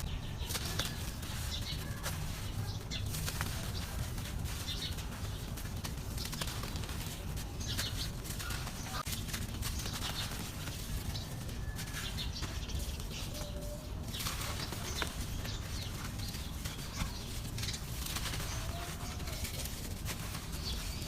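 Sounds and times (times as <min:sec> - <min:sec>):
dry dirt crumbling: 0:00.0 - 0:21.0.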